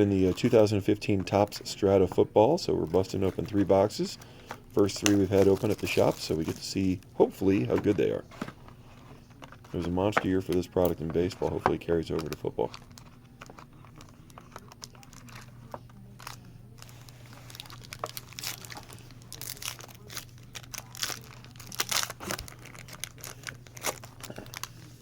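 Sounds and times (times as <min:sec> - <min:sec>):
plastic and foil packs crinkling: 0:00.0 - 0:25.0.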